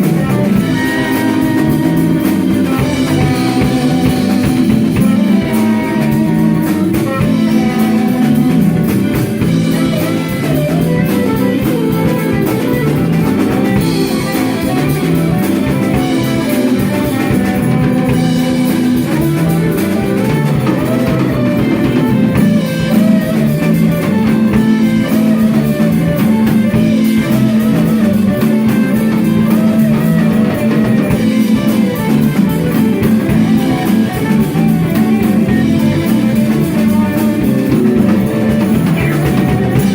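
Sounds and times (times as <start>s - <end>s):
bass line: 0.0s - 39.9s
drum kit: 0.0s - 39.9s
electric guitar lines: 0.0s - 39.9s
rock band instrumental: 0.0s - 39.9s.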